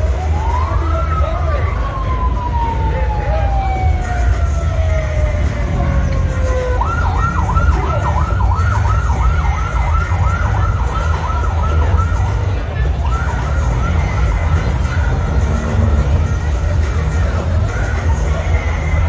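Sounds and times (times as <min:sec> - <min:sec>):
electronic siren wail and yelp: 0:00.0 - 0:16.0
low rumble of street noise: 0:00.0 - 0:19.0.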